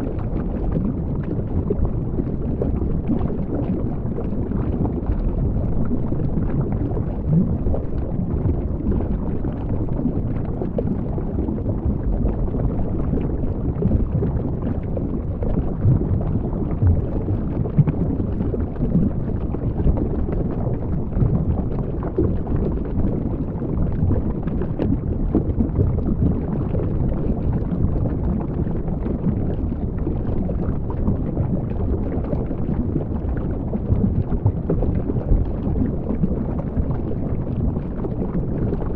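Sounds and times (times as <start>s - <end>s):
faint crackles: 0.0s - 38.9s
underwater rumble of moving water: 0.0s - 38.9s.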